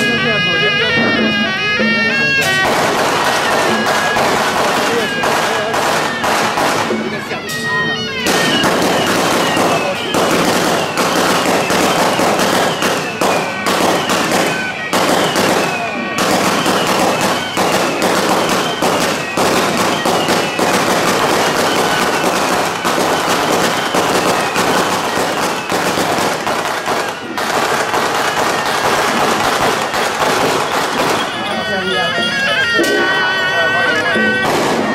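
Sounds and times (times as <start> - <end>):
firecrackers crackling: 1.2 - 34.9.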